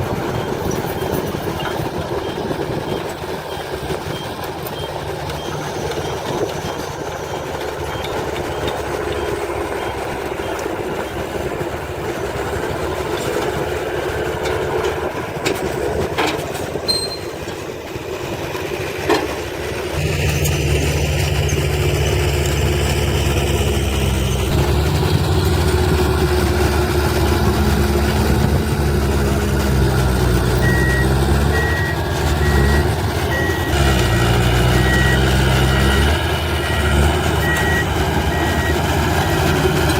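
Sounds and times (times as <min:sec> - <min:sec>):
truck reversing alarm beeping: 0:00.0 - 0:15.8, 0:16.8 - 0:39.9
heavy diesel machinery running: 0:00.0 - 0:39.9.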